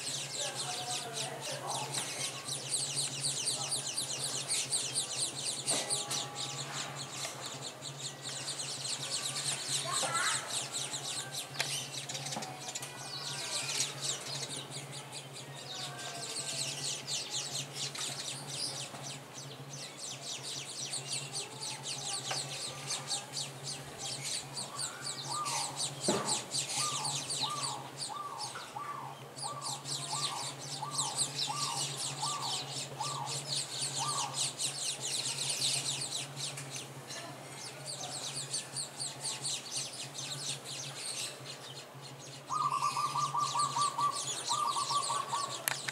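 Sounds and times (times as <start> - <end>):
bird trill: 0.0 - 45.9
small birds chirping: 0.0 - 45.9
steady low hum: 0.0 - 45.9.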